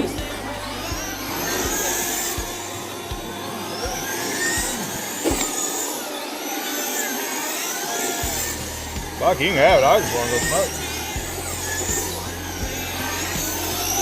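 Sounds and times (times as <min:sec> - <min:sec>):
rc car electric motors whining: 0:00.0 - 0:14.0.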